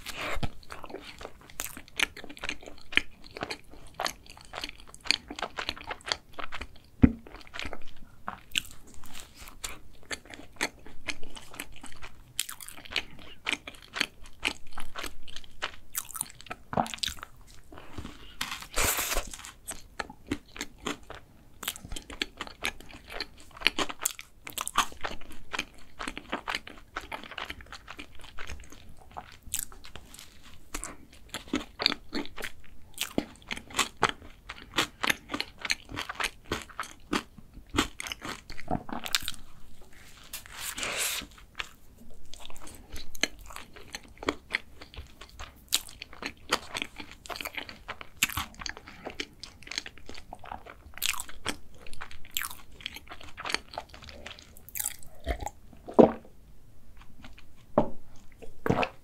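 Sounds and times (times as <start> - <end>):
chewing and mouth smacks: 0.0 - 39.6, 41.2 - 56.0.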